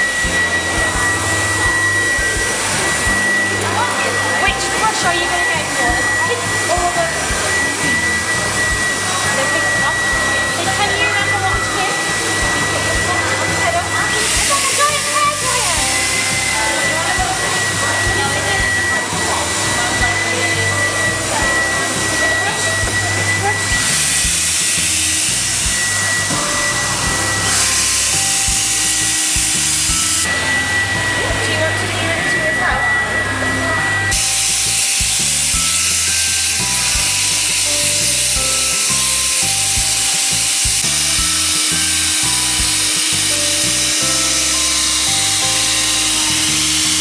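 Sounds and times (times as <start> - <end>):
air blower hissing: 0.0 - 47.0
background music: 0.0 - 47.0
thin high-pitched whine: 0.0 - 47.0.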